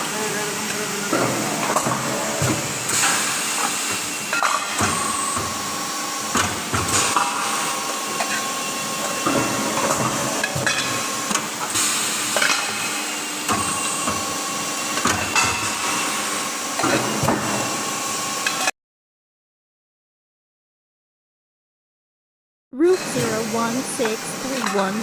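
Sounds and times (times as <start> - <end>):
metalworking machinery running: 0.0 - 18.7, 22.8 - 25.0.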